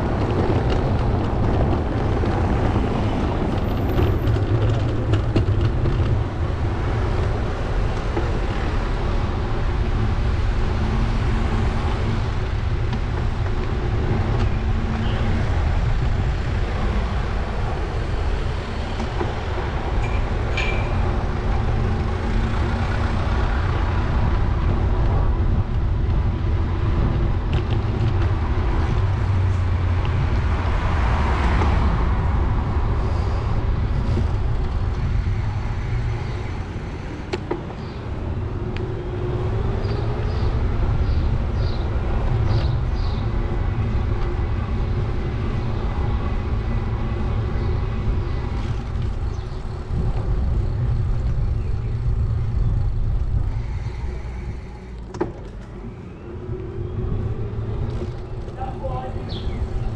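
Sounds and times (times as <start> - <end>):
road noise: 0.0 - 59.9
traffic noise: 0.0 - 59.9
wind rumble on microphone: 0.0 - 59.9.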